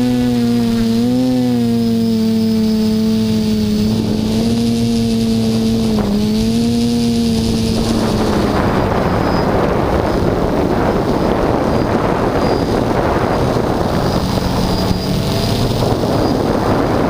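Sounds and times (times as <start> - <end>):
quadcopter propellers humming: 0.0 - 17.0
wind buffeting microphone: 0.0 - 17.0.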